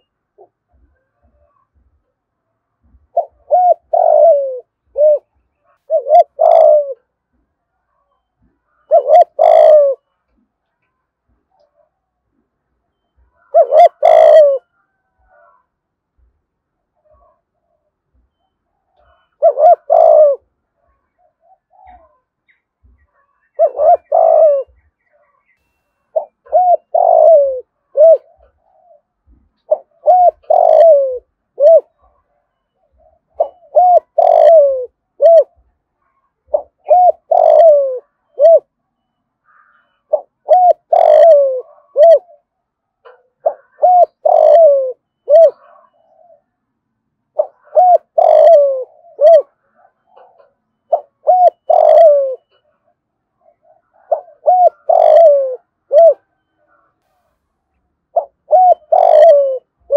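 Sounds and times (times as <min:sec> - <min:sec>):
dove cooing: 0:00.0 - 0:10.2, 0:11.4 - 0:16.3, 0:16.9 - 0:18.0, 0:18.7 - 0:25.5, 0:26.1 - 0:38.8, 0:39.5 - 0:46.6, 0:47.3 - 0:57.0, 0:58.1 - 0:59.9.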